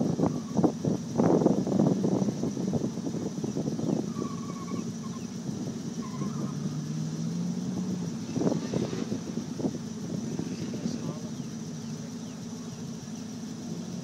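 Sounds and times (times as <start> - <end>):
distant car engine running: 0.0 - 14.0.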